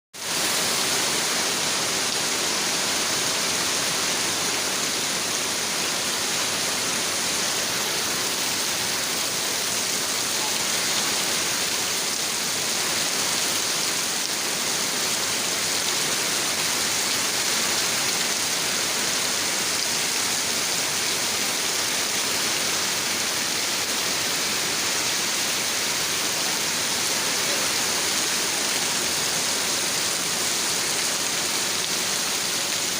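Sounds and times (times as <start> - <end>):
water rushing: 0.2 - 32.9.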